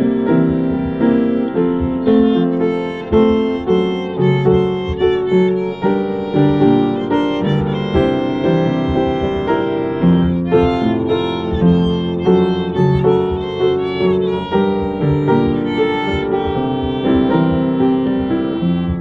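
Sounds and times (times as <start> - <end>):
upright piano accompaniment: 0.0 - 19.0
violin melody: 0.0 - 19.0.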